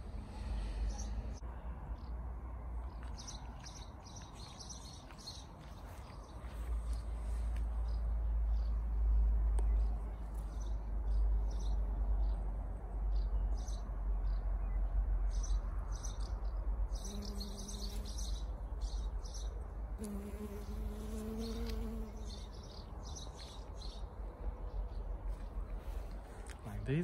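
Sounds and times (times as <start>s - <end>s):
small birds chirping: 0.0s - 2.2s, 2.8s - 12.5s, 13.1s - 27.0s.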